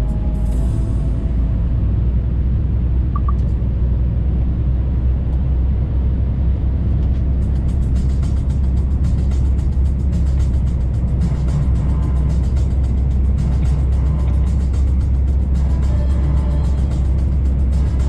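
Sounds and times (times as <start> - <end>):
truck cab drone: 0.0 - 18.0.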